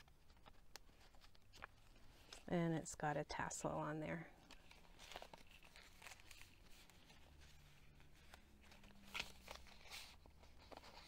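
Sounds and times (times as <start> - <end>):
paper pages rustling: 0.0 - 2.5, 4.4 - 11.0.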